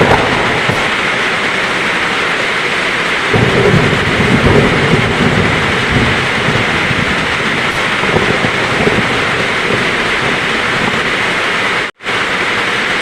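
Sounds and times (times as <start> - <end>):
heavy rain falling: 0.0 - 13.0
thunder rumbling: 0.0 - 13.0.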